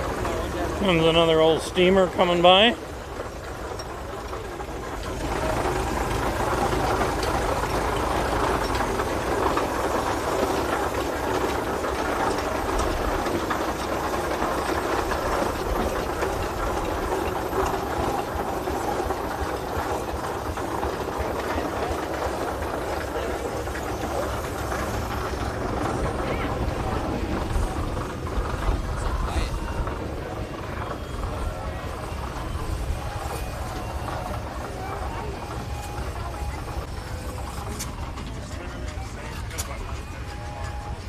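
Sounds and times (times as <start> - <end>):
steam traction engine running: 0.0 - 41.0.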